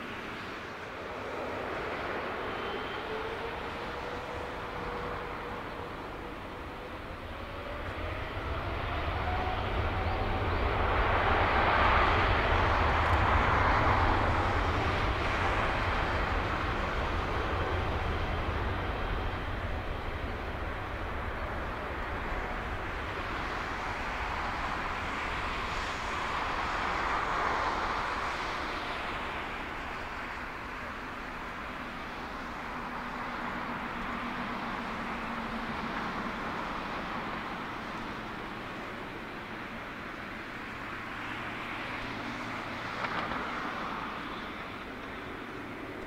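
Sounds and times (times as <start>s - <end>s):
jet engines roaring at takeoff: 0.0s - 46.0s.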